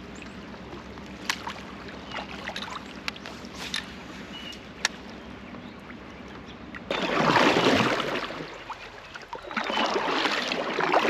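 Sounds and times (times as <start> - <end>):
paddle strokes splashing: 0.0 - 5.1, 6.7 - 11.0.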